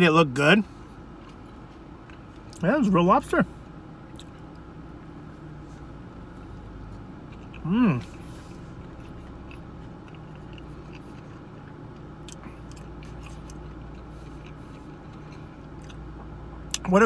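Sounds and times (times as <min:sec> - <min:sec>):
steady low hum: 0:00.0 - 0:17.0
person chewing food: 0:01.1 - 0:02.6, 0:04.0 - 0:16.9.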